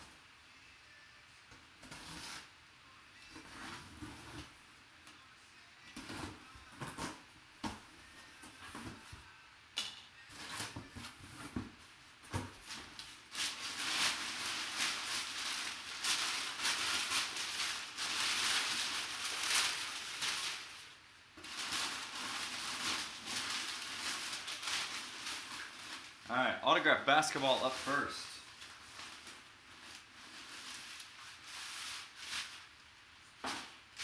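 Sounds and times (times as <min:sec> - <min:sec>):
cardboard packing rustling and tearing: 0:03.2 - 0:04.6, 0:06.0 - 0:09.1, 0:10.3 - 0:34.0.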